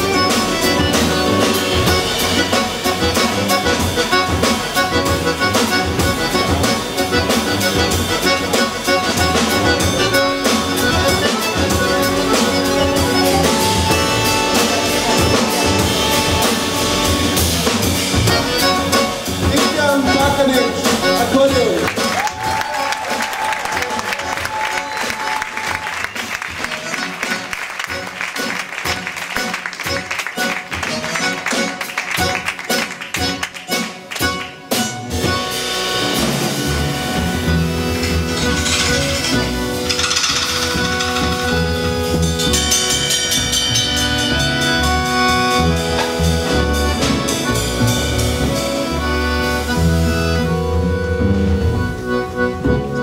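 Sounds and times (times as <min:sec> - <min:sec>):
steady drum beat: 0:00.0 - 0:27.3, 0:28.3 - 0:50.9
live band playing klezmer tune: 0:00.0 - 0:53.0.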